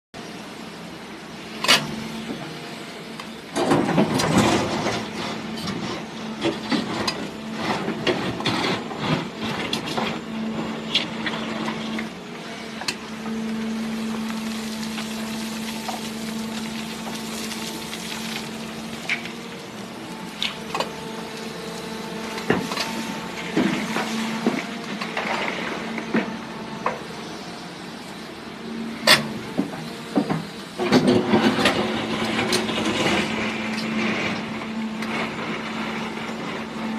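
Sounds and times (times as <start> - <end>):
excavator engine hum: 0.2 - 36.9.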